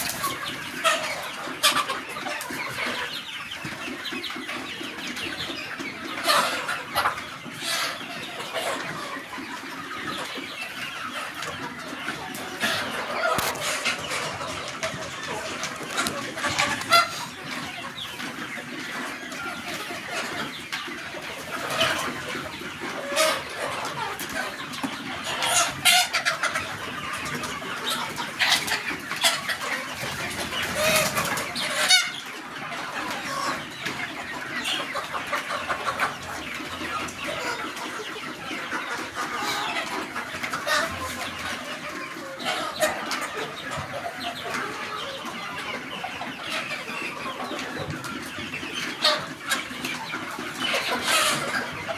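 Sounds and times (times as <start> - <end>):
chickens clucking and squawking: 0.0 - 51.9.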